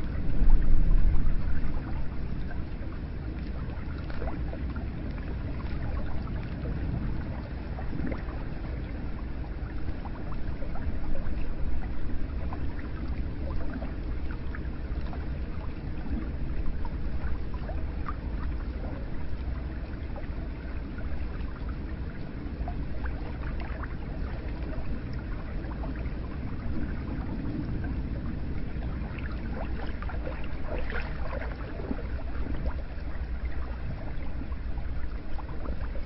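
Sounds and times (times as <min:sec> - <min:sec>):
water drips and splashes: 0:00.0 - 0:36.0.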